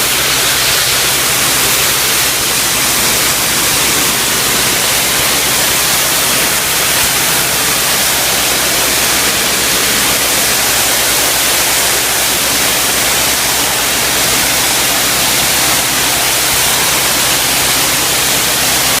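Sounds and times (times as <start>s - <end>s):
pressure washer spraying water: 0.0s - 19.0s.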